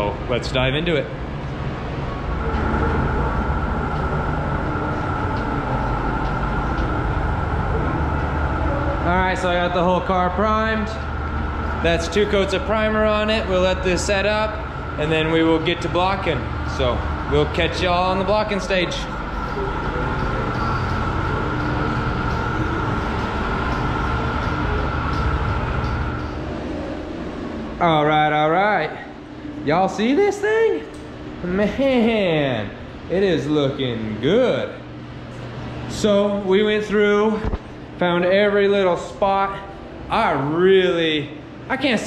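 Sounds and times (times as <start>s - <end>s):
high whine: 0.0s - 42.0s
ventilation fans droning: 0.0s - 42.0s.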